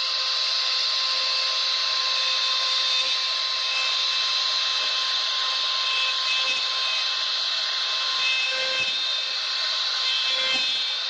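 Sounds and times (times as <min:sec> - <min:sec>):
router spindle whine: 0:00.0 - 0:11.0.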